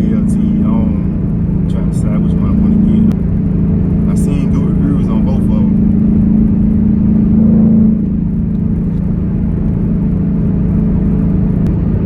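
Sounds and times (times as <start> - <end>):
car engine droning at cruise: 0.0 - 12.0.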